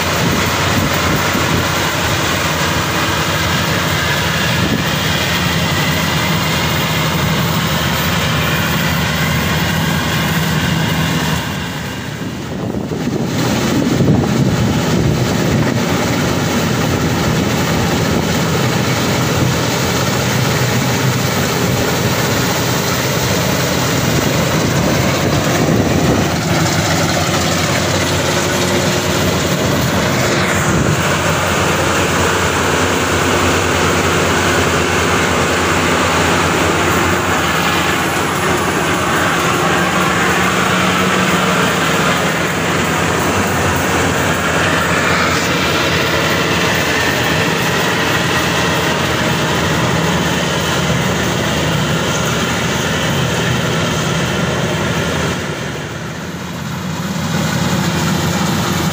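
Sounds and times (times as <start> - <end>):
combine harvester engine drone: 0.0 - 58.9
cutting and threshing machinery: 0.0 - 58.9.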